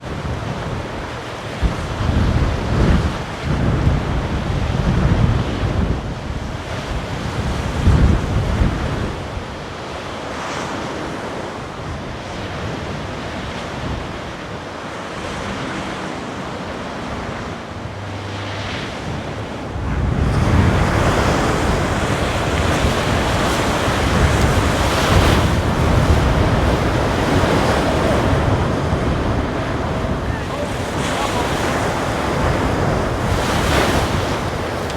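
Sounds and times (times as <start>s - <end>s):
ocean waves and surf: 0.0s - 34.9s
wind buffeting microphone: 0.0s - 34.9s.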